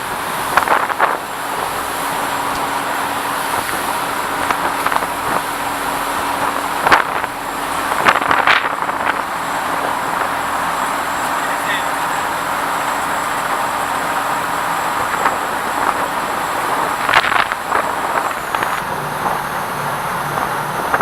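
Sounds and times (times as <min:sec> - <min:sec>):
boat engine humming: 0:00.0 - 0:21.0
rush of water noise: 0:00.0 - 0:21.0.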